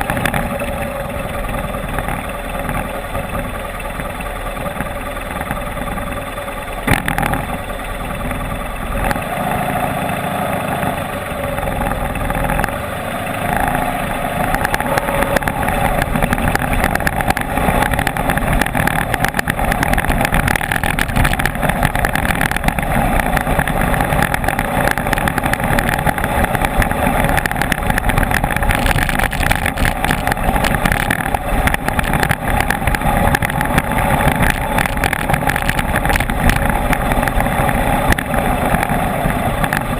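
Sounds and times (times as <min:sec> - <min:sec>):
clatter from rough ground: 0:00.0 - 0:39.9
motorcycle engine running: 0:00.0 - 0:39.9.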